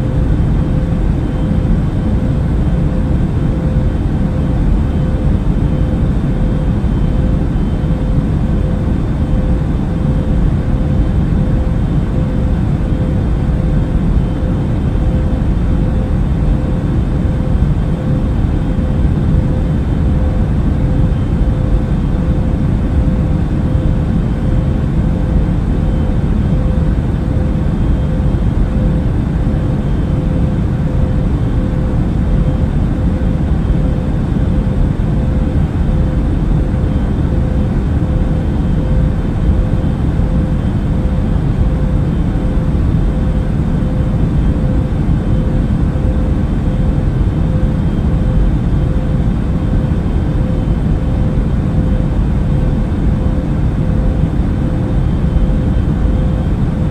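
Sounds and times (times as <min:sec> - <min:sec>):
airliner engines and rushing air: 0:00.0 - 0:56.9
faint steady hum: 0:00.0 - 0:56.9.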